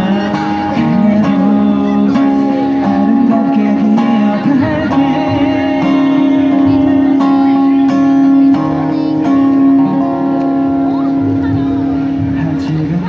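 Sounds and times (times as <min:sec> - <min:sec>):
acoustic guitar strumming: 0:00.0 - 0:13.0
person singing long note: 0:00.0 - 0:13.0.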